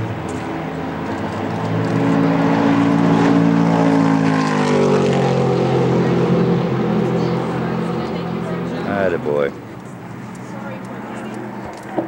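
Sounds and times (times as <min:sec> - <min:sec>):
car engine running: 0:00.4 - 0:12.0.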